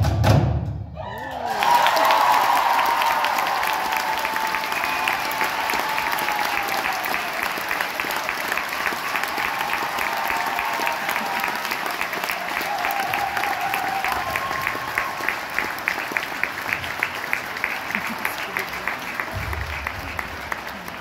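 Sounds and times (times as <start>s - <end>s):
audience applauding: 1.0s - 21.0s.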